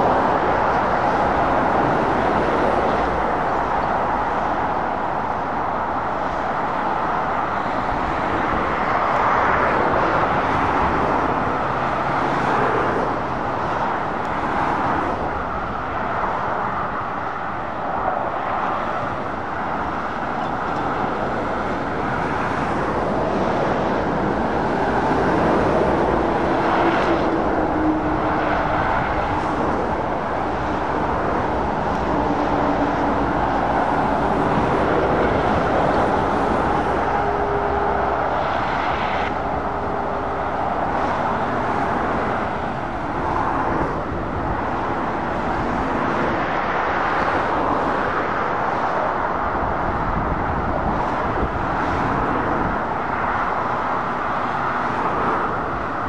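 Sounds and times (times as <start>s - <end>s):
motorway traffic passing: 0.0s - 56.0s.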